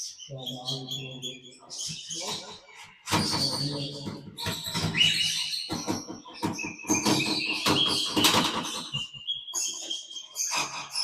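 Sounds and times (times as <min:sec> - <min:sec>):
parrots chirping and calling: 0:00.0 - 0:11.0.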